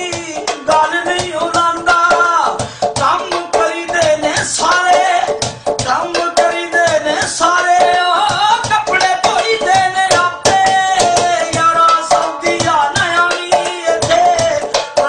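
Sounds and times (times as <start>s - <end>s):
hand percussion: 0.0s - 15.0s
man singing: 0.0s - 15.0s.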